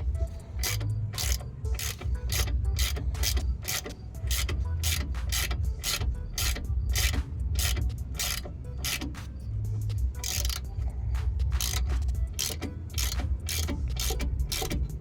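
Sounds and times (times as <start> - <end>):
hand ratchet clicking: 0.0 - 15.0.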